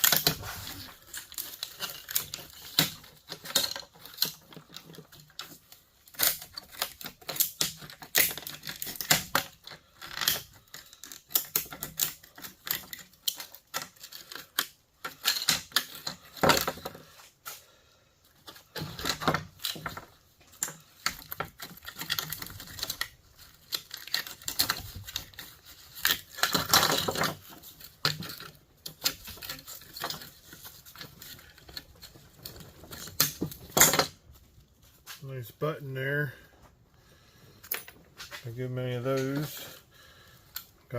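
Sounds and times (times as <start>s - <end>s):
metal parts rattling: 0.0s - 17.3s, 18.3s - 35.5s, 37.6s - 40.9s.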